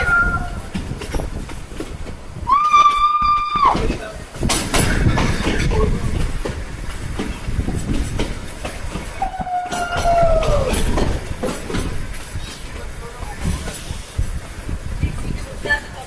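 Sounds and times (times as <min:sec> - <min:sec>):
train wheels clickety-clack: 0:00.0 - 0:16.0.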